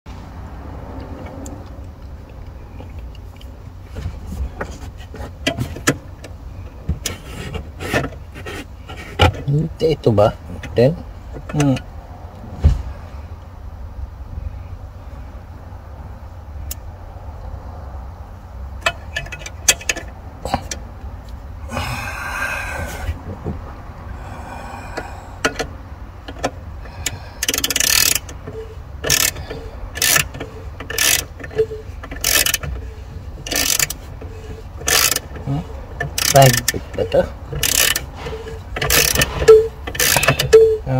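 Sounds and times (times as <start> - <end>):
steady low rumble: 0.1 - 40.0.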